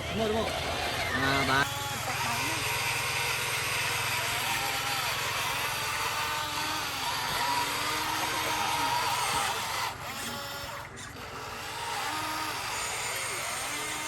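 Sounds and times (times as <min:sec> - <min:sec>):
toy machine motors whirring: 0:00.0 - 0:14.0
voices in background: 0:00.0 - 0:14.0.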